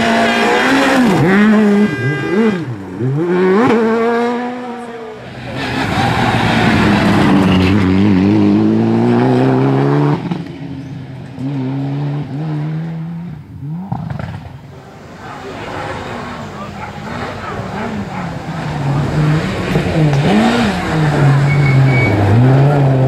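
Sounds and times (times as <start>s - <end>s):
rally car engine accelerating: 0.0s - 23.0s
second car engine: 0.0s - 23.0s
gravel spray and tyre noise: 4.3s - 23.0s.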